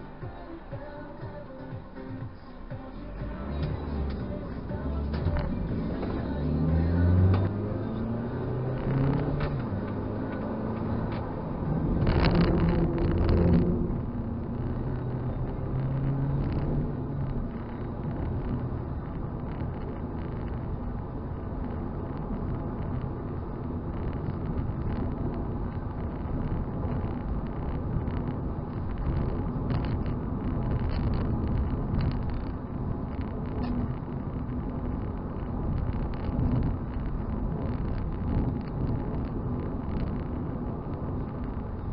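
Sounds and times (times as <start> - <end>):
car engine while driving: 0.0 - 41.9
tyre and road rumble: 0.0 - 41.9.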